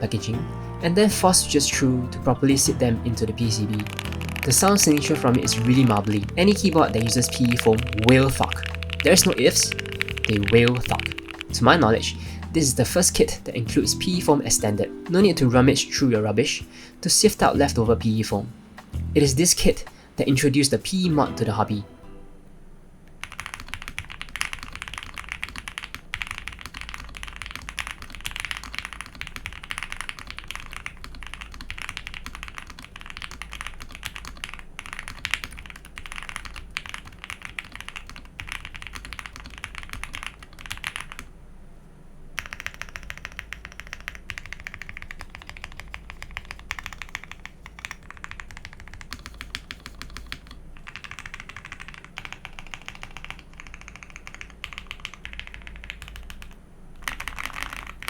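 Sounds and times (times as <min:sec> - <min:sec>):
fast mechanical keyboard typing: 0:00.0 - 0:19.9, 0:23.2 - 0:41.3, 0:42.4 - 0:58.0.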